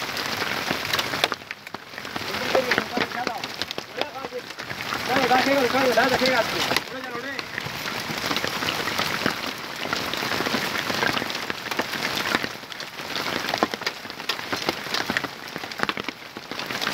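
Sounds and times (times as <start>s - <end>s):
hailstones ticking: 0.0s - 16.9s
rain patter: 0.0s - 16.9s.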